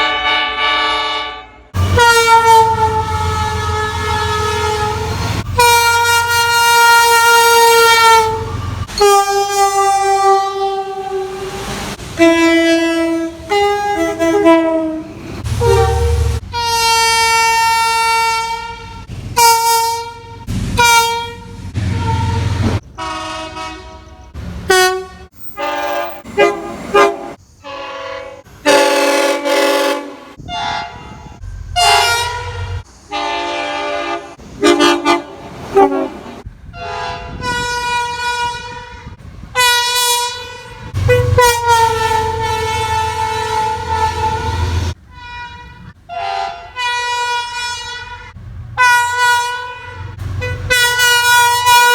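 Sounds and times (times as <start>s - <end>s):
low train rumble: 0.0s - 51.9s
train air horn blasts: 0.0s - 51.9s.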